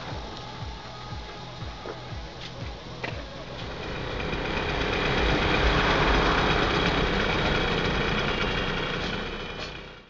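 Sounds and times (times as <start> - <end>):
tram passing: 0.0 - 10.0.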